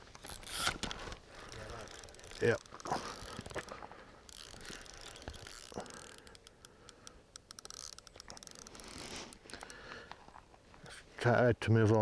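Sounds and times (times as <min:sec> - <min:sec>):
fishing reel ratchet clicking: 0:00.1 - 0:09.8.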